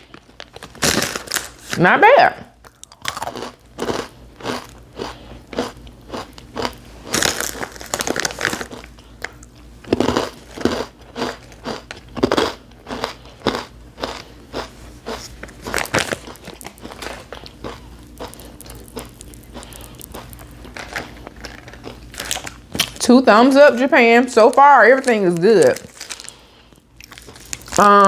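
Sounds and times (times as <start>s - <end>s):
crunching and chewing snack: 0.0s - 1.8s, 2.6s - 23.0s, 25.0s - 28.0s.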